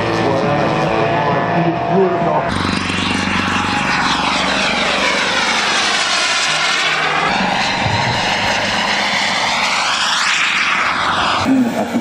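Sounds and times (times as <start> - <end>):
model jet engine rush flying past: 0.0 - 12.0.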